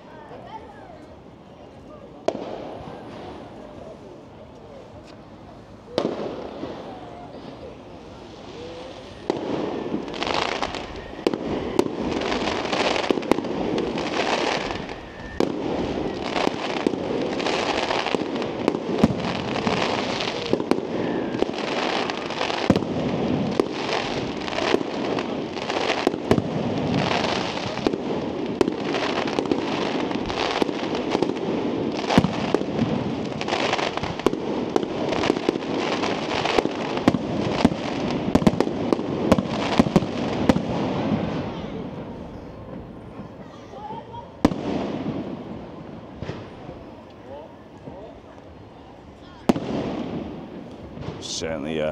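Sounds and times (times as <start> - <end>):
fireworks crackling: 0.0 - 51.9
fireworks sharp bangs: 2.2 - 3.9, 5.9 - 43.2, 43.8 - 47.0, 49.3 - 51.9.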